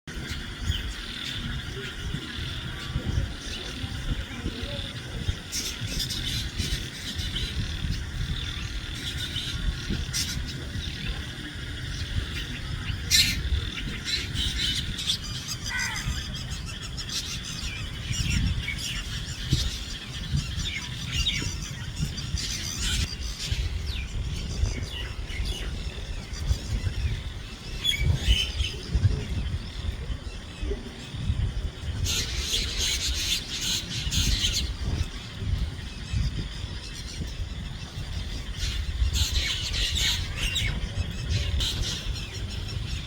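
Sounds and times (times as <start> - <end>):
birds chirping and squawking: 0.1 - 43.0.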